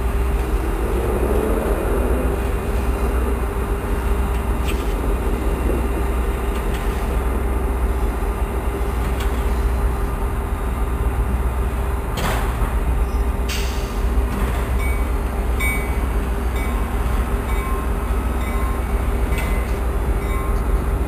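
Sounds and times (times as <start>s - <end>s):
diesel locomotives droning: 0.0s - 21.0s.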